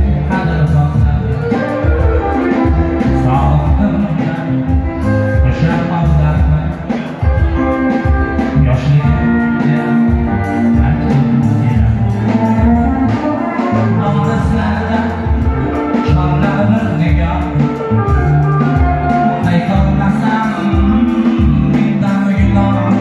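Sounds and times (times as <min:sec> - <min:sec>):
live band over loudspeakers: 0:00.0 - 0:23.0
man singing into a microphone: 0:00.0 - 0:23.0.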